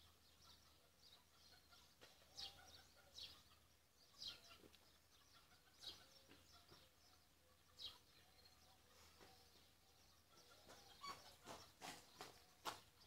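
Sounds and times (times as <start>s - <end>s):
distant bird chirps: 0.0s - 13.0s.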